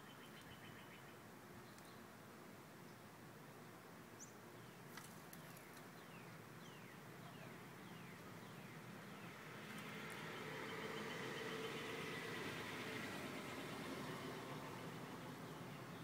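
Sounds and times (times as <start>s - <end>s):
faint outdoor ambience: 0.0s - 16.0s.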